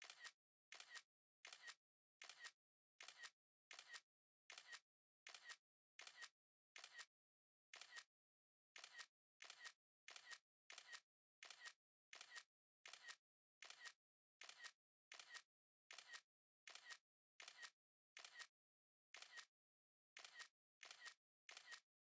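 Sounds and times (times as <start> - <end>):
camera shutter clicks: 0.0 - 7.1, 7.8 - 8.1, 8.8 - 18.5, 19.2 - 19.5, 20.2 - 21.8.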